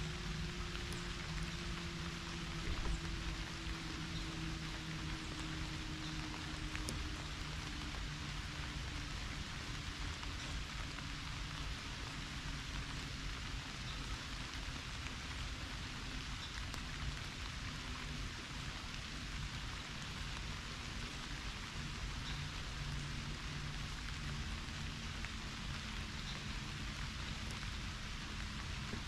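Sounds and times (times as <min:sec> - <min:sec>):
low steady rumble: 0:00.0 - 0:29.0
pouring rain: 0:00.0 - 0:29.0
raindrop ticks: 0:00.0 - 0:29.0.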